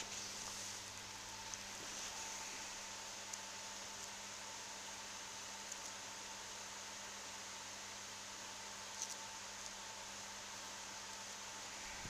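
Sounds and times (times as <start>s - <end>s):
camera recording hiss: 0.0s - 12.0s
faint high whine: 0.0s - 12.0s
low electrical hum: 0.0s - 12.0s.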